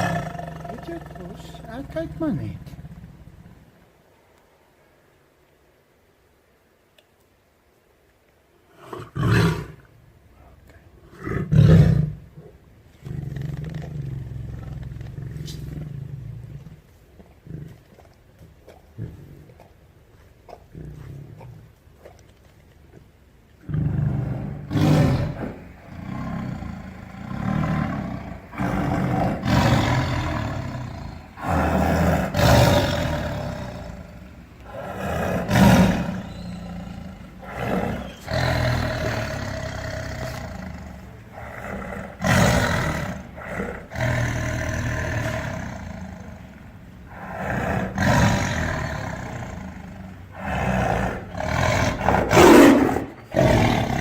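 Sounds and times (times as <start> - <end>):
tiger growling: 0.0 - 3.9, 11.0 - 23.0, 23.6 - 54.0.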